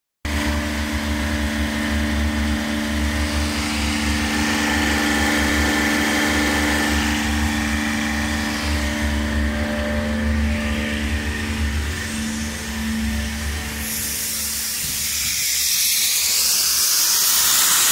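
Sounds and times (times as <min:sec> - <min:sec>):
pressure washer engine humming: 0:00.3 - 0:17.9
pump low pulsing: 0:00.3 - 0:17.9.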